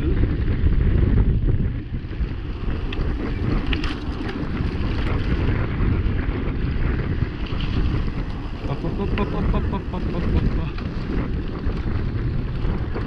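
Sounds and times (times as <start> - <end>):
bike clicks and rattles: 0.0 - 13.0
tyre rumble on paved road: 0.0 - 13.0
wind buffeting microphone: 0.0 - 13.0.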